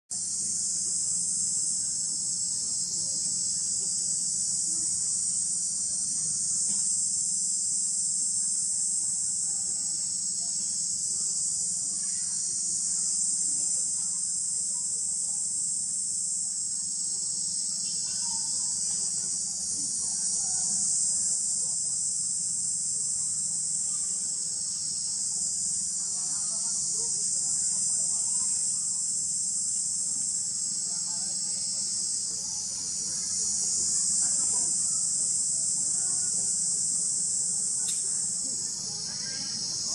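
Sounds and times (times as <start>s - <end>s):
high-pitched insect chorus: 0.1s - 39.9s.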